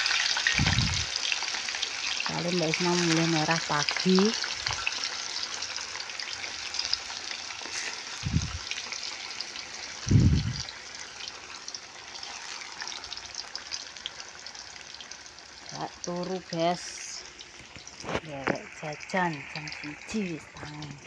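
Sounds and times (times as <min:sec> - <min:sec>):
tofu sizzling in hot oil: 0:00.0 - 0:21.0.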